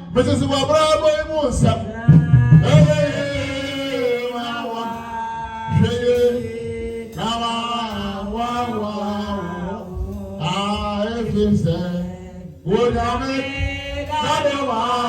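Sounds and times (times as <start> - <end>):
man singing slow chant: 0.0 - 15.0.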